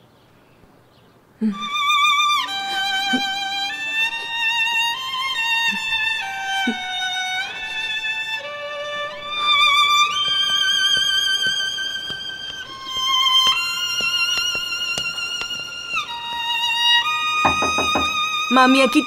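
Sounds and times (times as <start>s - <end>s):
slow violin melody: 1.4s - 19.0s.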